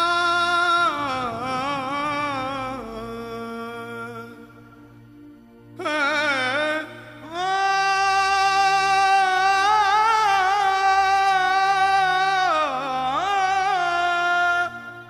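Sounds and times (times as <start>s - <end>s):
person singing a long note: 0.0s - 4.8s, 5.7s - 15.0s.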